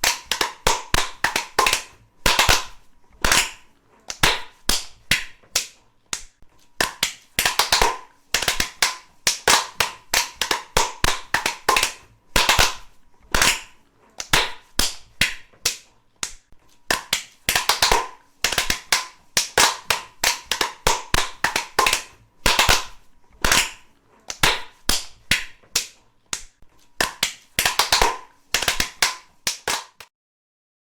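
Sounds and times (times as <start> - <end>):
hands clapping: 0.0 - 30.1.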